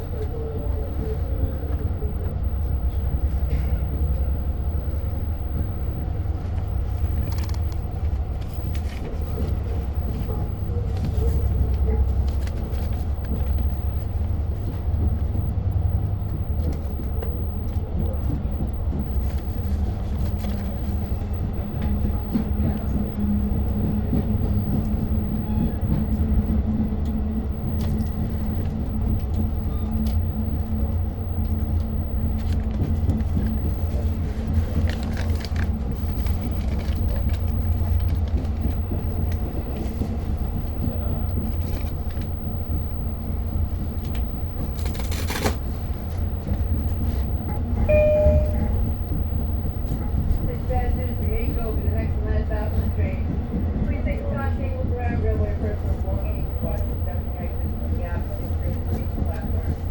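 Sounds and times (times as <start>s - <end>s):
constant hum: 0.0s - 59.9s
train wheels rumbling: 0.0s - 59.9s.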